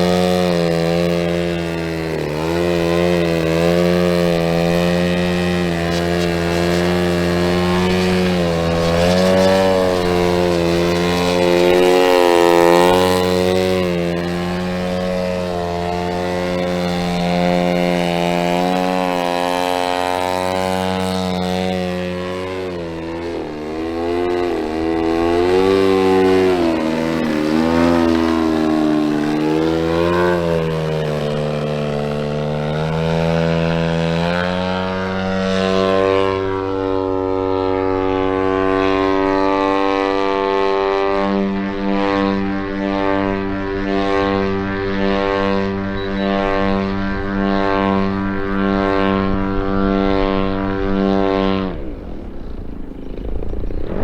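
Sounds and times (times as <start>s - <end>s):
model plane engine and propeller: 0.0s - 54.0s.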